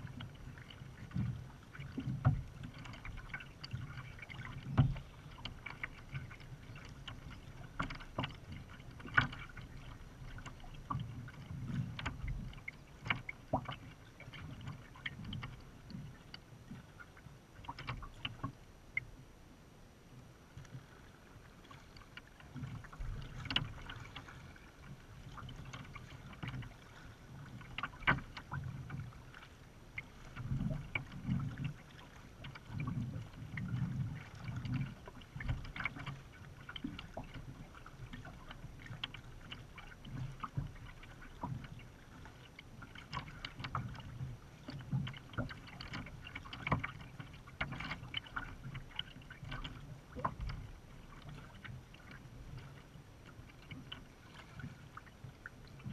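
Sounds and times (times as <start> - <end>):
water lapping against kayak hull: 0.0 - 55.9.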